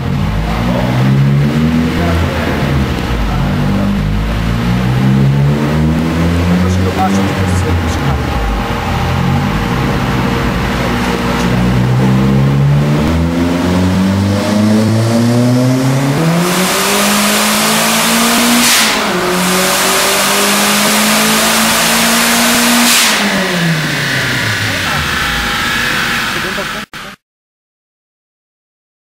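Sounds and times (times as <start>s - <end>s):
turbocharged engine revving: 0.0s - 27.2s.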